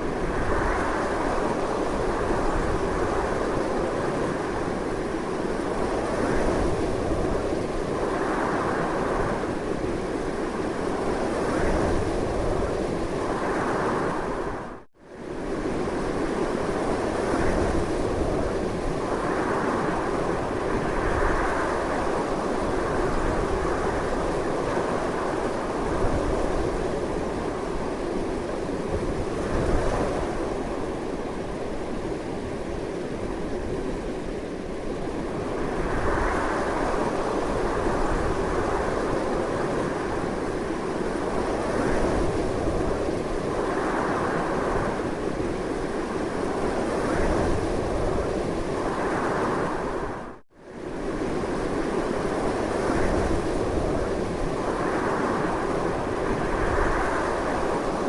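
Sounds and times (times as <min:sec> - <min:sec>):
strong wind blowing in gusts: 0:00.0 - 0:58.0.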